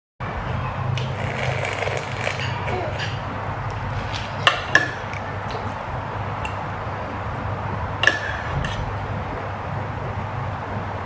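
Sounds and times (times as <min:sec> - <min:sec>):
steady low hum: 0:00.2 - 0:11.0.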